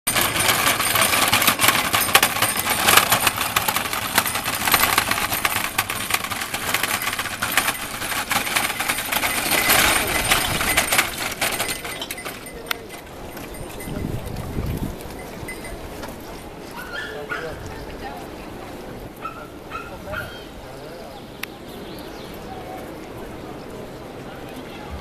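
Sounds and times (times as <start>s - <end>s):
wooden cart rattling over cobblestones: 0.1s - 20.6s.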